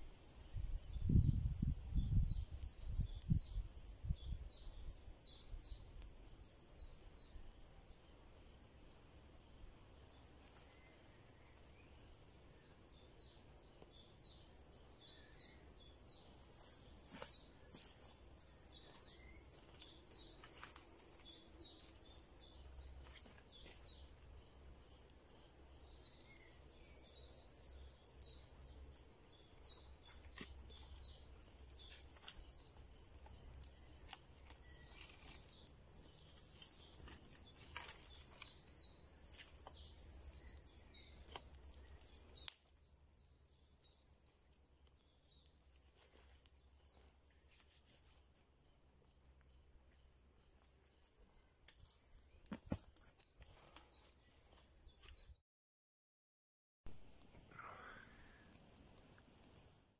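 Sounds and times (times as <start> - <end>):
small bird chirping: 0.0 - 55.4.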